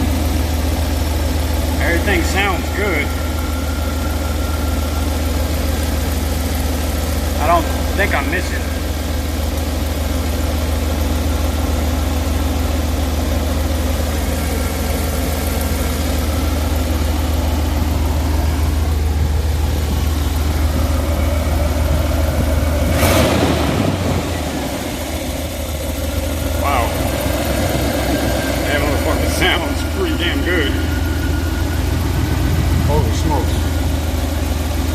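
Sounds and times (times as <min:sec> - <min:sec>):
van engine idling: 0:00.0 - 0:34.9.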